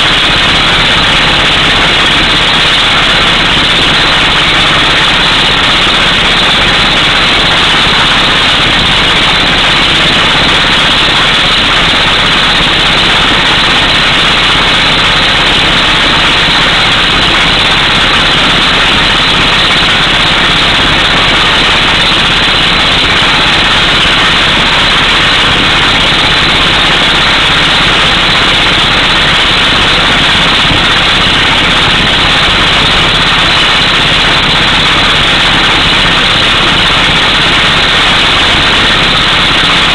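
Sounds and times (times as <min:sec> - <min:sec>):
air hammer drilling rock: 0:00.0 - 0:39.9
truck engine running: 0:00.0 - 0:39.9.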